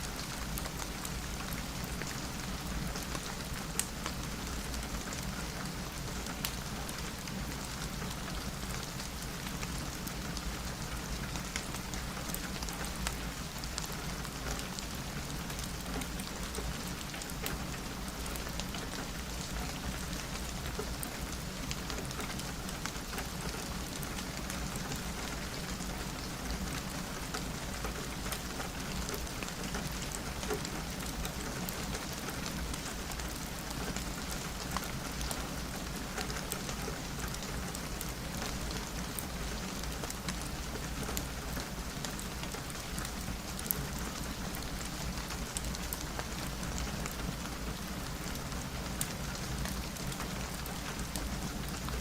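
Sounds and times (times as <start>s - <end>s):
rain on a window: 0.0s - 52.0s.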